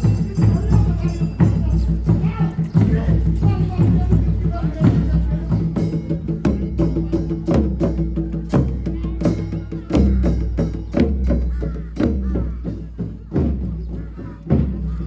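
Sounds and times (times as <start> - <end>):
rhythmic percussion music: 0.0 - 15.0.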